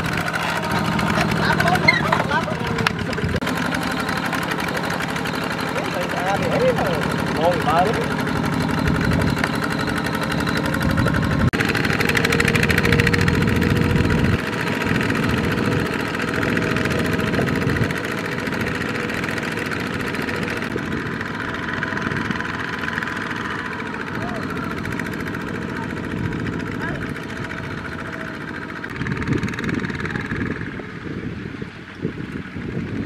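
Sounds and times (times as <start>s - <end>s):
small diesel engines running: 0.0s - 33.0s.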